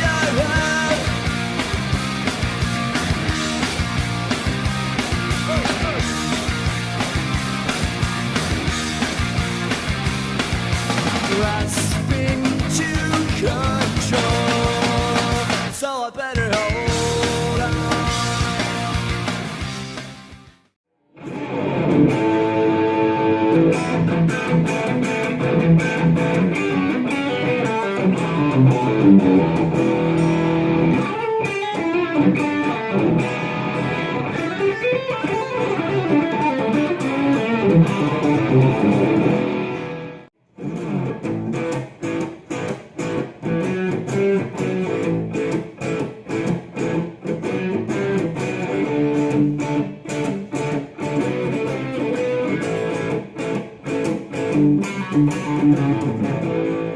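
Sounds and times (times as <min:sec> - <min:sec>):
electric guitar riffs: 0:00.0 - 0:56.9.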